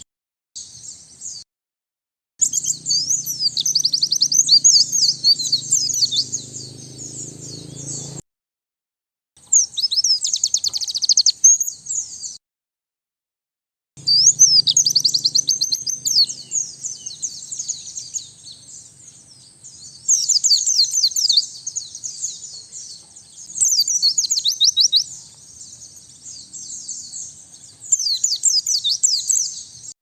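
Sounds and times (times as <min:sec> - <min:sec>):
bird twittering warbles: 0:02.4 - 0:08.2, 0:09.5 - 0:12.3, 0:14.0 - 0:29.9.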